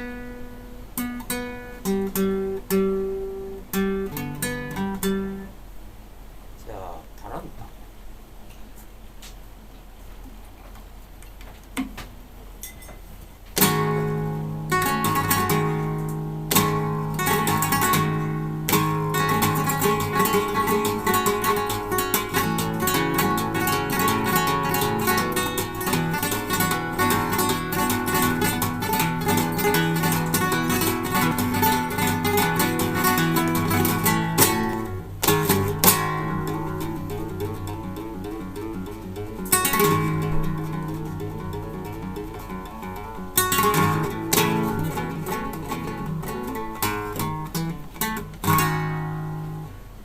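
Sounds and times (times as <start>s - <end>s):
acoustic guitar flamenco piece: 0.0s - 5.6s, 11.6s - 49.9s.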